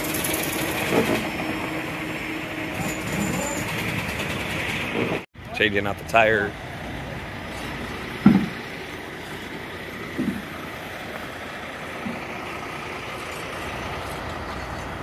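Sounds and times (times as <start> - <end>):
heavy truck engine running: 0.0 - 15.0.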